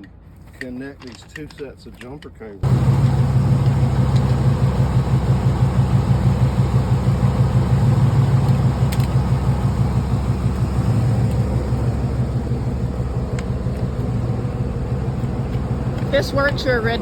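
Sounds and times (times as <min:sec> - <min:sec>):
vehicle engine idling: 0:02.6 - 0:17.0.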